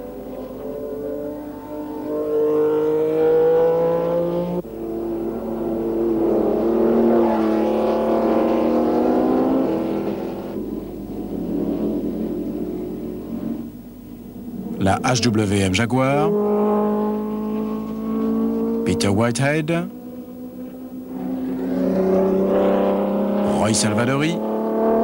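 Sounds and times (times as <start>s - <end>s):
racing car engines at speed: 0.0s - 25.0s.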